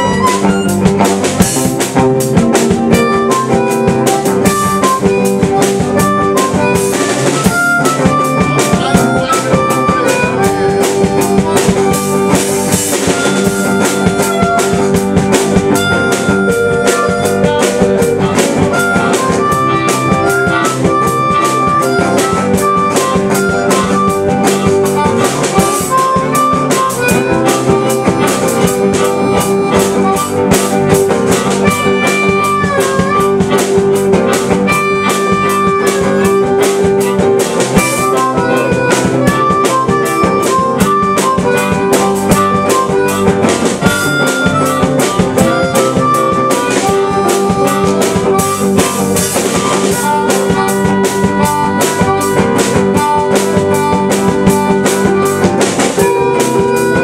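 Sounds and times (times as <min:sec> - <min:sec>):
drum kit beat: 0:00.0 - 0:57.0
electric guitar: 0:00.0 - 0:57.0
harmonica playing: 0:00.0 - 0:57.0.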